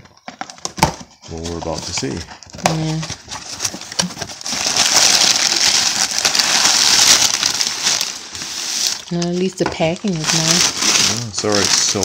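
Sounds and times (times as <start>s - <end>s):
crinkly packing material rustling: 0.0s - 12.0s.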